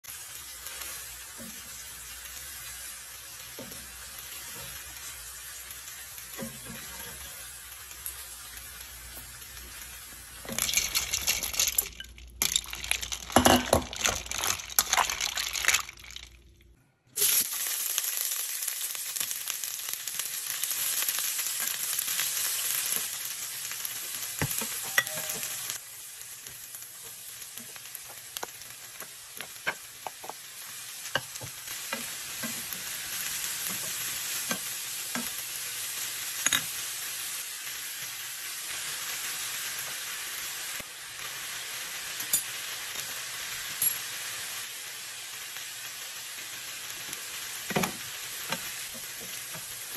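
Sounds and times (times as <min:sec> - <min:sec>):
vegetables sizzling in oil: 0:00.0 - 0:16.4, 0:17.2 - 0:49.9.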